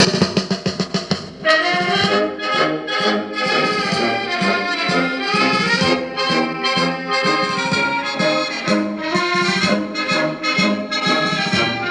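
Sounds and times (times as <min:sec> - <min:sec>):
snare drum roll: 0:00.0 - 0:11.9
trumpets and trombones playing: 0:01.4 - 0:11.9.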